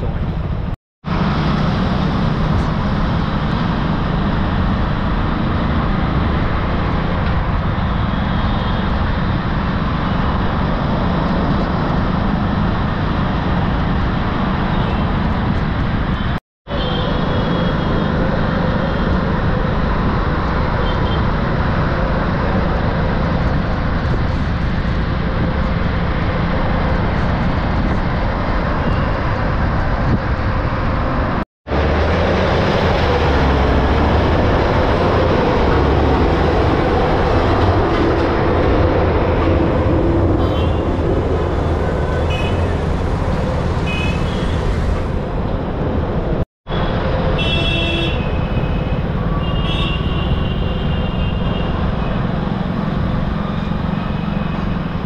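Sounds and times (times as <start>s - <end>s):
traffic and road noise: 0.0s - 55.0s.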